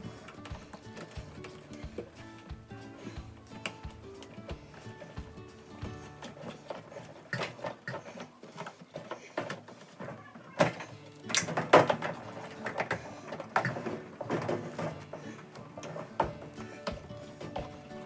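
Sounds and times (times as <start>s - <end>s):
clicks and knocks of parts handled: 0.0s - 18.0s.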